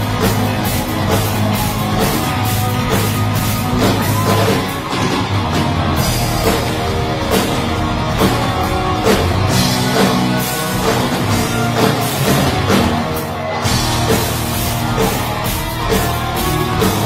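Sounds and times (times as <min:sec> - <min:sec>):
heavy metal band playing live: 0:00.0 - 0:17.0
regular drum hits: 0:00.0 - 0:17.0.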